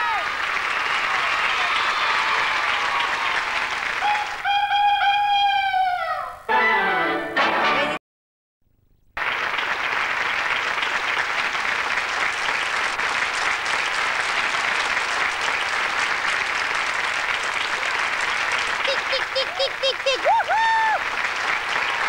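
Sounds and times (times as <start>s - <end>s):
children applauding: 0.0s - 5.7s, 9.2s - 22.0s.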